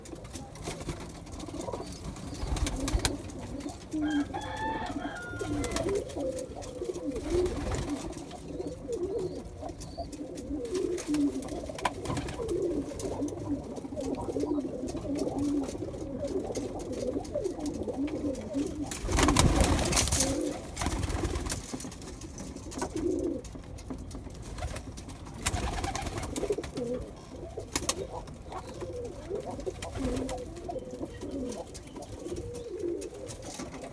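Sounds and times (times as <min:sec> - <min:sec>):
pigeons cooing: 0:00.2 - 0:21.7, 0:22.5 - 0:23.6, 0:24.6 - 0:33.9.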